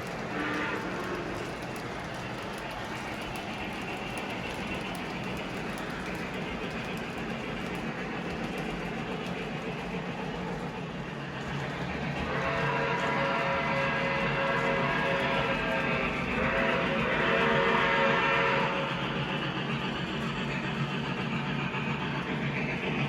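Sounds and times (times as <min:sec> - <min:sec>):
faint rail clicks: 0:00.0 - 0:23.0
model train running on track: 0:00.0 - 0:23.0.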